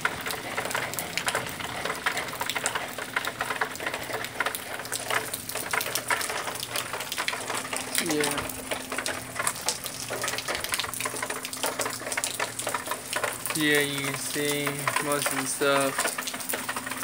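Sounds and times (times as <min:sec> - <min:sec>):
rain on concrete and lawn: 0:00.0 - 0:17.0.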